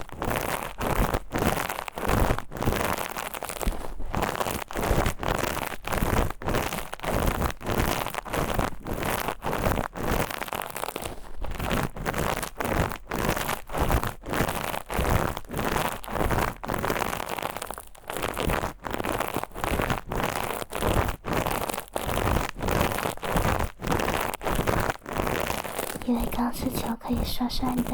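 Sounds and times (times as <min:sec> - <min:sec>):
steel wool scratching microphone: 0:00.0 - 0:27.9.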